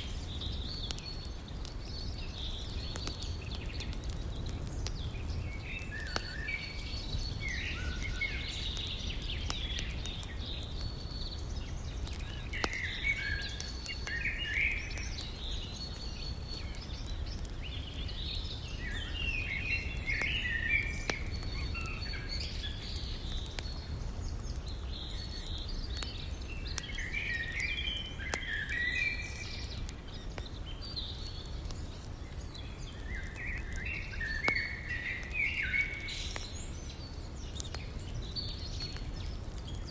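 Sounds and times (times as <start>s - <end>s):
songbirds warbling: 0.0s - 39.8s
campfire crackling: 0.0s - 39.9s.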